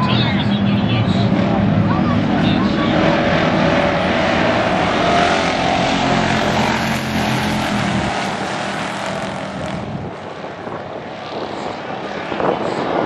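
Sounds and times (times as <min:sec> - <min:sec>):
race car engines passing: 0:00.0 - 0:13.0.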